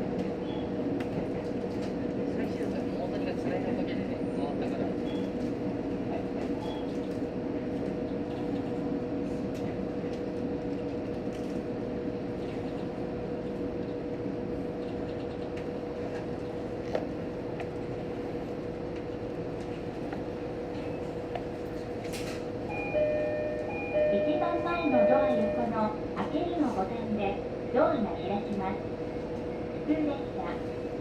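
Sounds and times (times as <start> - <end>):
train cabin rumble and hum: 0.0 - 31.0.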